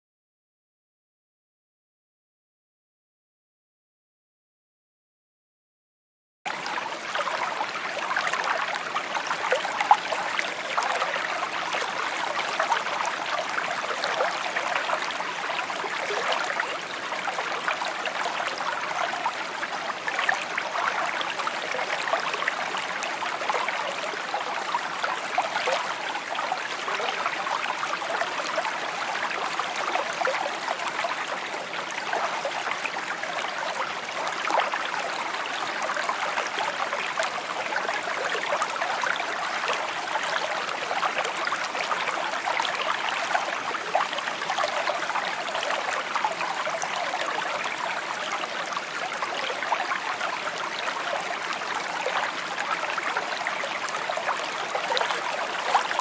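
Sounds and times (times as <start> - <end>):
stream babbling over stones: 6.5 - 56.0.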